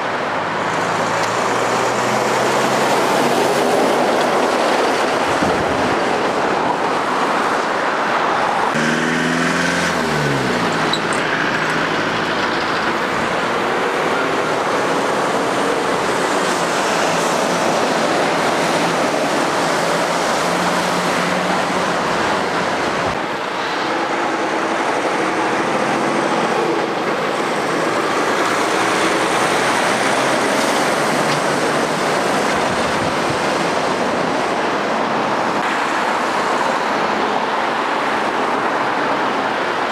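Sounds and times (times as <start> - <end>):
lorries driving past: 0.0 - 39.9.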